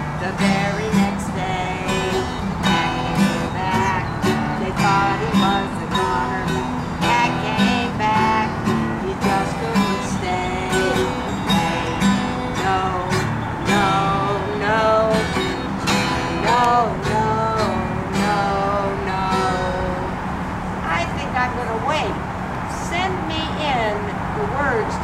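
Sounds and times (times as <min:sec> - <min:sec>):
woman singing: 0:00.0 - 0:20.2, 0:20.8 - 0:25.0
acoustic guitar strumming: 0:00.0 - 0:25.0.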